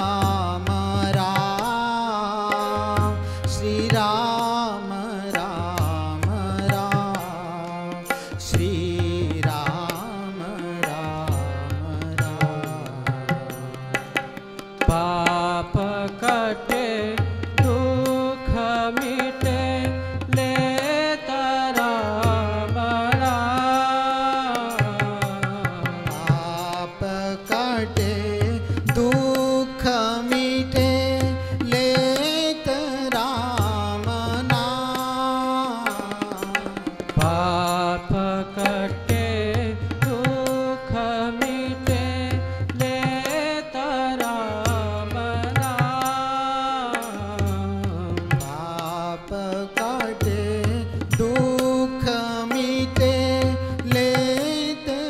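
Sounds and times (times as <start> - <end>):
harmonium: 0.0 - 55.0
man singing: 0.0 - 55.0.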